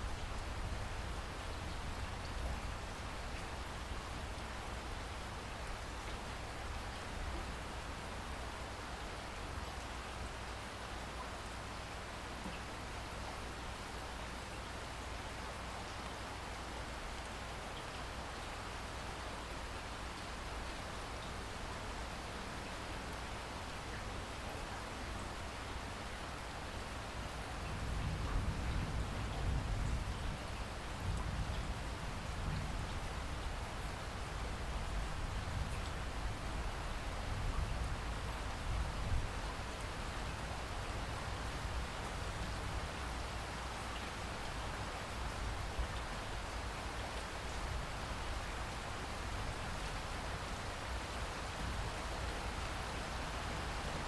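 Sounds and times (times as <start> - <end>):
rain pattering: 0.0 - 14.0, 14.6 - 54.0.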